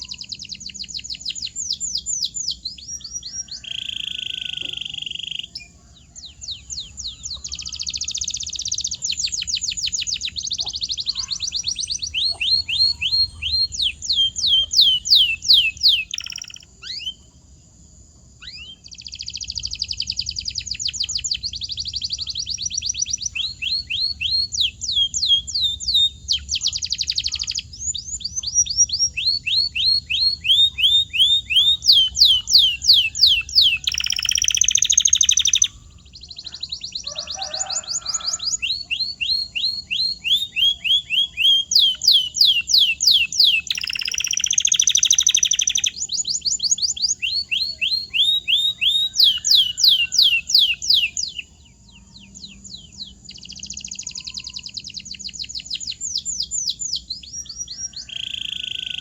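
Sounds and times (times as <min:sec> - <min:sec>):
canary singing: 0:00.0 - 0:17.4, 0:18.3 - 0:59.0.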